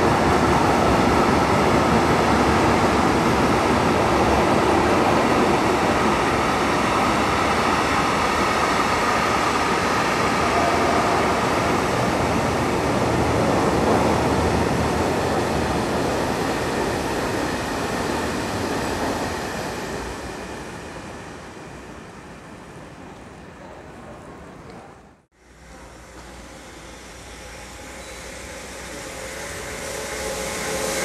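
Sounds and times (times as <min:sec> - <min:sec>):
train wheels on rail: 0:00.0 - 0:31.0.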